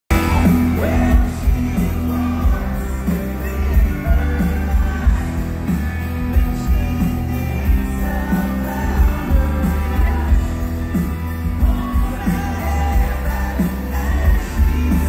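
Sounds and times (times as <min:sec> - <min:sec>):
drums: 0:00.0 - 0:15.0
bass guitar: 0:00.1 - 0:15.0
electric guitars: 0:00.1 - 0:15.0
person singing: 0:00.1 - 0:15.0.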